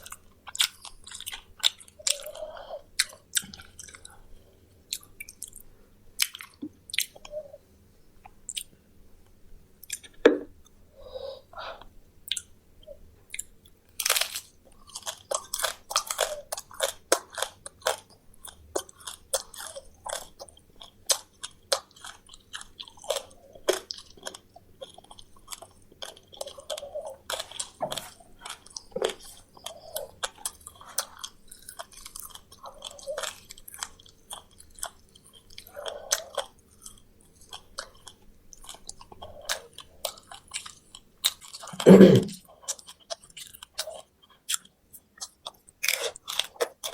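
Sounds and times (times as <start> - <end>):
chewing crunchy fried meat: 0.0 - 7.4, 13.2 - 46.9.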